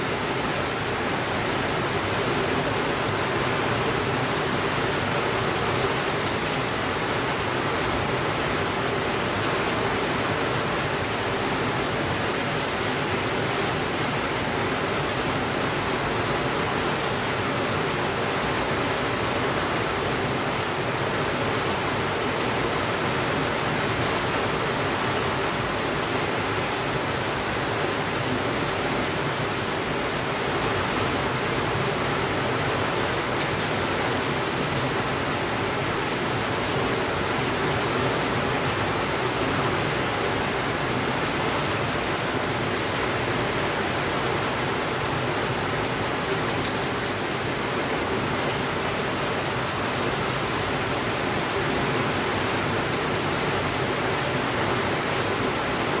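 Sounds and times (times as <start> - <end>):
steady rainfall hiss: 0.0 - 56.0.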